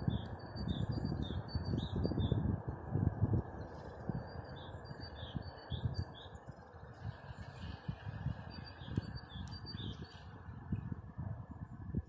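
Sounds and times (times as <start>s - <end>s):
small songbirds chirping: 0.0s - 2.6s, 3.3s - 11.0s.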